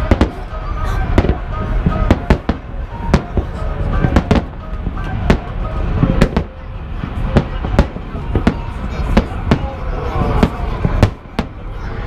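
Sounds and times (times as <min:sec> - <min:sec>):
fireworks bangs: 0:00.0 - 0:11.8.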